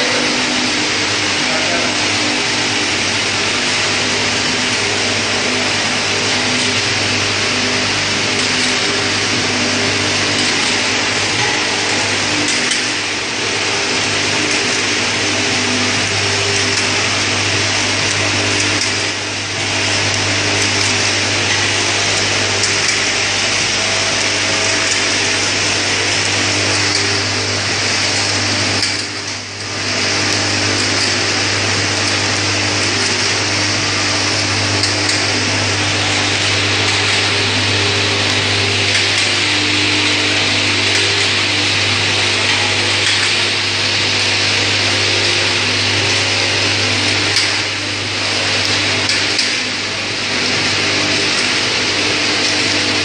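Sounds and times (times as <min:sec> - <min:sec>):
machine whirring: 0:00.0 - 0:53.0.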